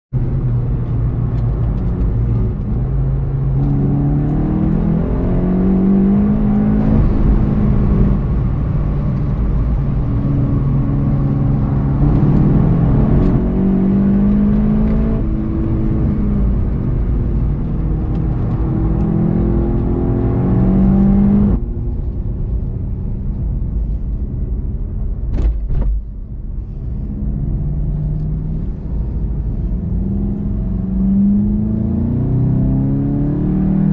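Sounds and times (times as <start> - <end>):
car engine revving: 0.2 - 21.8, 26.6 - 33.9.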